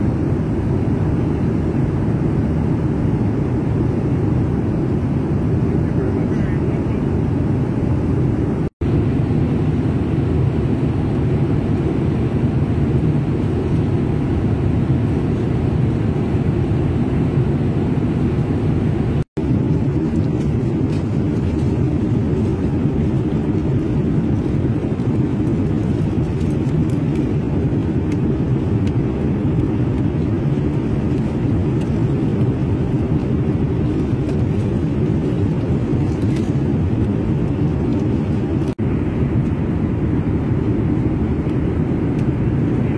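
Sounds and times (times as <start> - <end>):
airliner cabin engine drone: 0.0 - 42.9.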